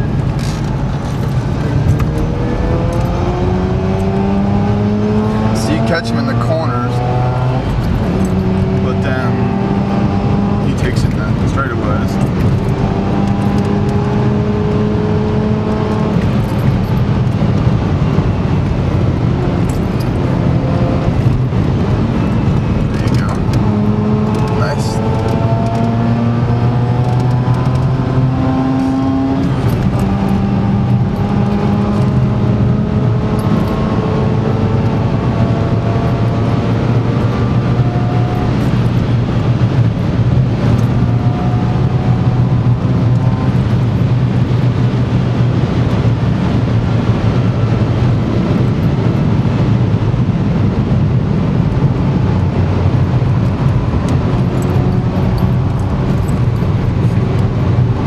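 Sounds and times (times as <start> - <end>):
tyre and wind noise: 0.0 - 5.8, 7.0 - 58.0.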